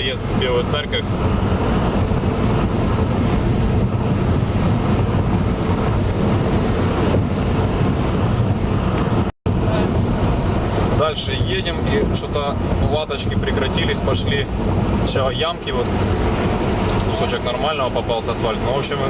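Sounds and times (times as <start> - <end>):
tyres on asphalt inside car: 0.0 - 19.0.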